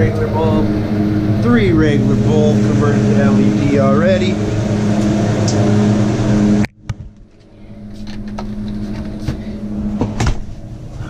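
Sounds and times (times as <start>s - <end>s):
refrigeration unit humming: 0.0s - 11.0s.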